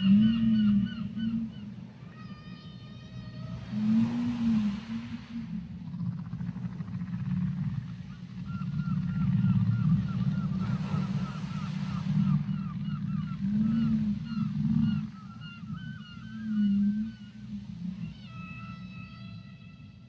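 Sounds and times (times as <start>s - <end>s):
whale high chirps: 0.0s - 5.8s, 7.8s - 20.0s
steady low underwater drone: 0.0s - 20.0s
whale moans: 0.0s - 20.0s.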